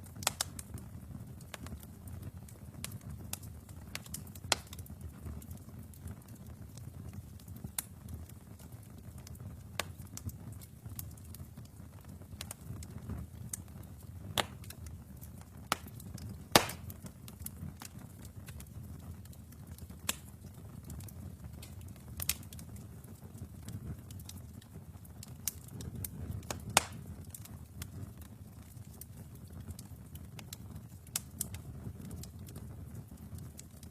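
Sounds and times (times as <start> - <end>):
fire crackling and popping: 0.0 - 33.9
fire flames rumbling: 0.0 - 33.9.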